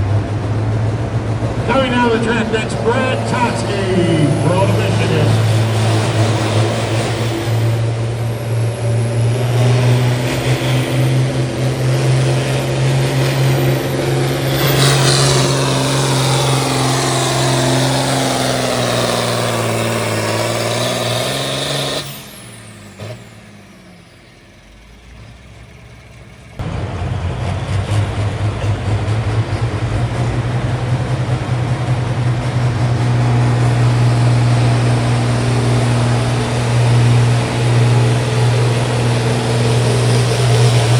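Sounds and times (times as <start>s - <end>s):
tractor engine labouring: 0.0s - 40.9s.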